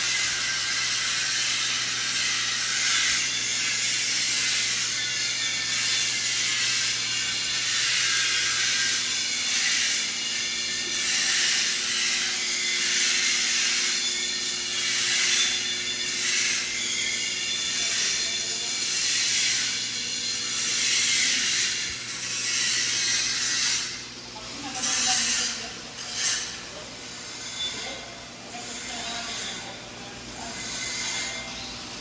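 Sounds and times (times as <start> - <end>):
welding arc crackling: 0.0 - 27.2.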